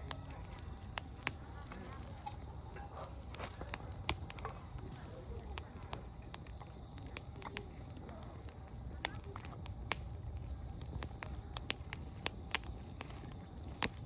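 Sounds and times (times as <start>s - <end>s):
campfire crackling and popping: 0.0s - 14.0s
insect chirping: 0.0s - 14.0s.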